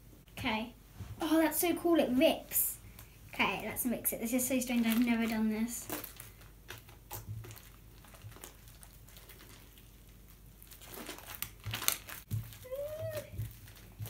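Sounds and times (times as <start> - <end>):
slime crackling and squelching: 2.2 - 14.0.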